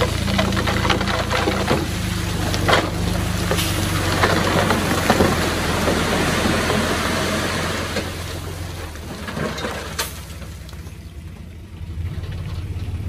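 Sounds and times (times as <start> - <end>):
bulldozer diesel engine running: 0.0 - 13.0
gravel crackling and tumbling: 0.0 - 13.0.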